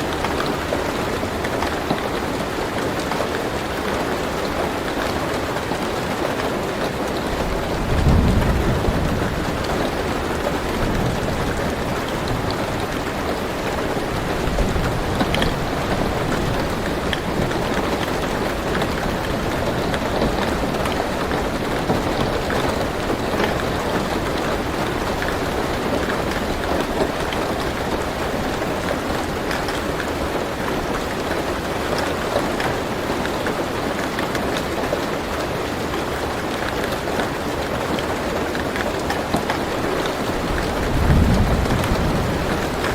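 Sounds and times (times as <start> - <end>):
rain on a car roof: 0.0 - 42.9.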